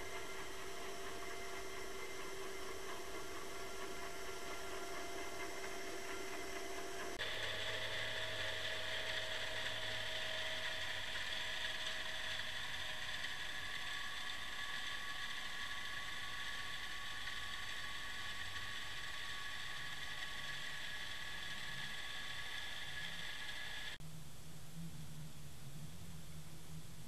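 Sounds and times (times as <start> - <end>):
high even whine: 0.0 - 27.0.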